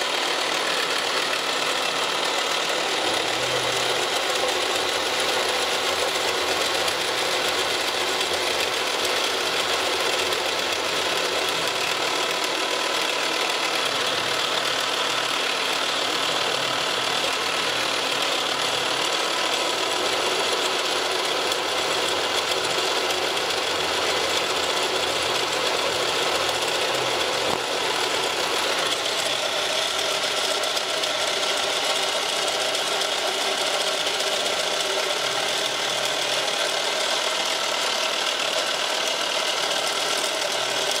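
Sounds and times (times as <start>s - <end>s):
milling machine whine: 0.0s - 41.0s.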